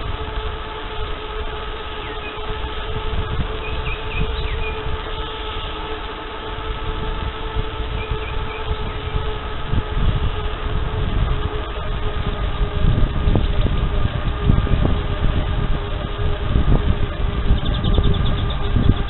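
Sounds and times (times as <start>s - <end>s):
steady whine: 0.0s - 19.0s
wind buffeting microphone: 0.0s - 19.0s.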